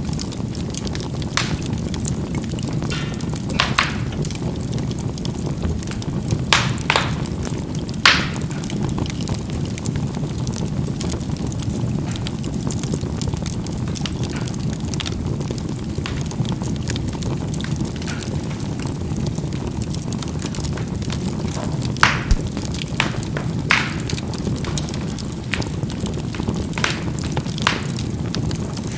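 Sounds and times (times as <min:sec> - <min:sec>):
charcoal crackling: 0:00.0 - 0:28.9
fire rumbling: 0:00.0 - 0:28.9
loud pop from fire: 0:00.1 - 0:28.9.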